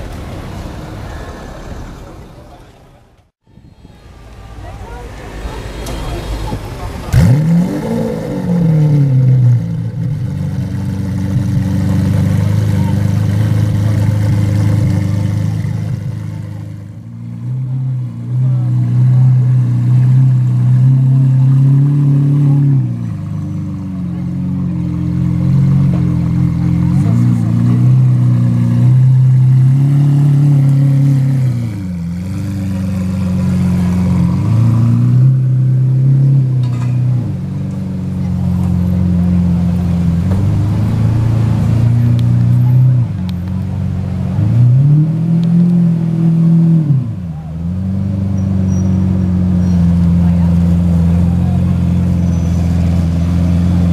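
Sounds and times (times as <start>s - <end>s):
sports car engine revving: 6.9s - 53.9s.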